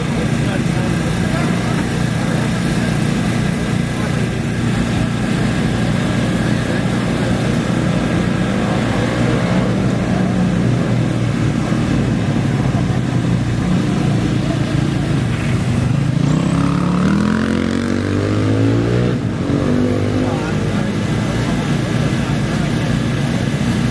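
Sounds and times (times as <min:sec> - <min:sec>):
motorbike engine revving up: 0:00.0 - 0:23.9
motorbike engines running: 0:00.0 - 0:23.9.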